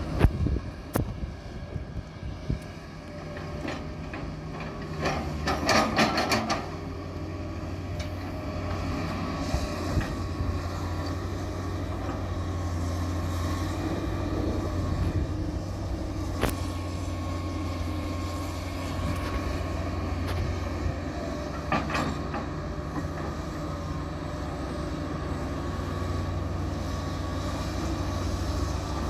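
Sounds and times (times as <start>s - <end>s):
diesel engine humming: 0.0s - 29.0s.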